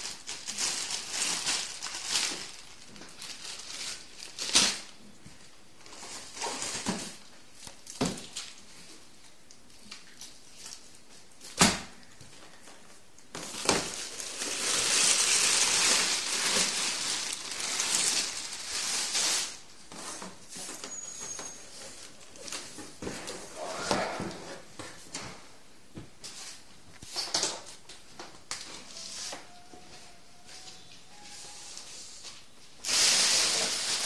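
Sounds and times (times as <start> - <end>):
packaging rustling and crinkling: 0.0 - 23.6, 28.5 - 34.0.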